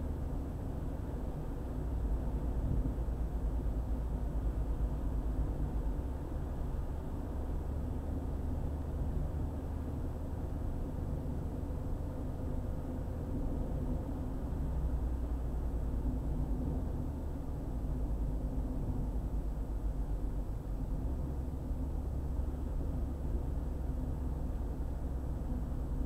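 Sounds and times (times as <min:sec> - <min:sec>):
car driving on highway: 0:00.0 - 0:26.0.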